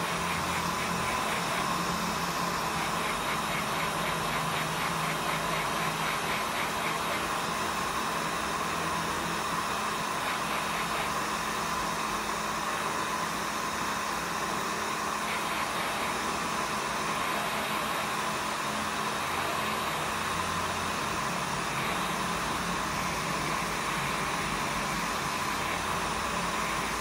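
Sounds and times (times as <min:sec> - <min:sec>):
hot-air tool blowing: 0:00.0 - 0:27.0.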